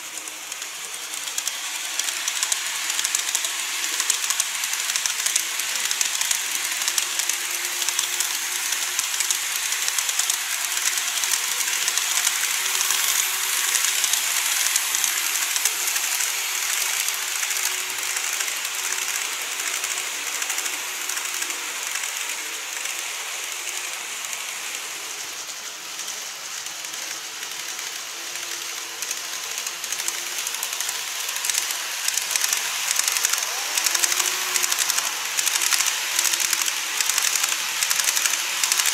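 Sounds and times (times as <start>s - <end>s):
model trains rattling whir: 0.0s - 38.9s
rapid clicking of wheels: 0.0s - 38.9s.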